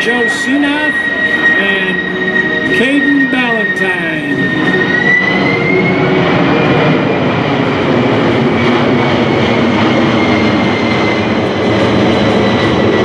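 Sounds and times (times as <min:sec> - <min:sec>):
jet fan whine: 0:00.0 - 0:13.0
jet roar: 0:00.0 - 0:13.0.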